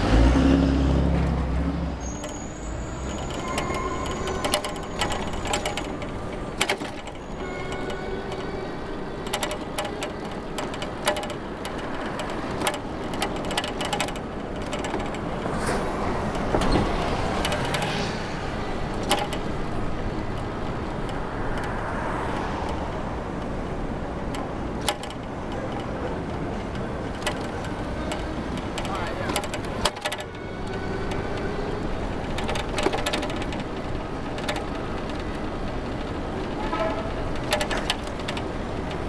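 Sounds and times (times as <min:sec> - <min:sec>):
road traffic noise: 0:00.0 - 0:39.0
bicycle clicks and rattles: 0:02.0 - 0:15.6, 0:16.3 - 0:39.0.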